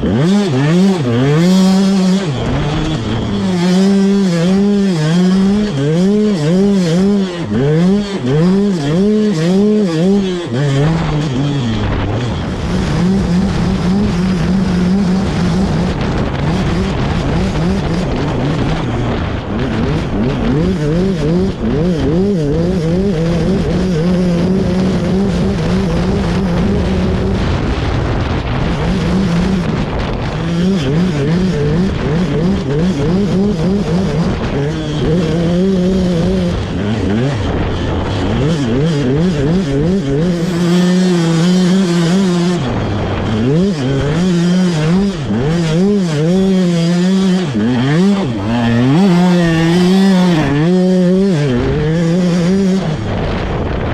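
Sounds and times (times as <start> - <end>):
motocross engine revving: 0.0 - 53.8.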